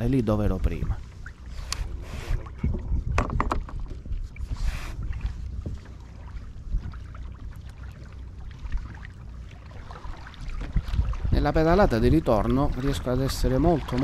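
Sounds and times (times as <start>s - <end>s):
wind and water against hull: 0.0s - 14.0s.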